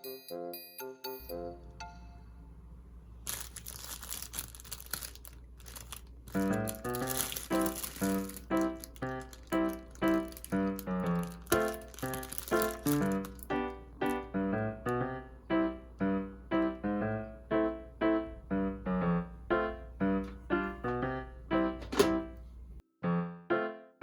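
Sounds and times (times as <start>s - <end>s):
electric piano melody: 0.0s - 2.7s, 5.7s - 24.0s.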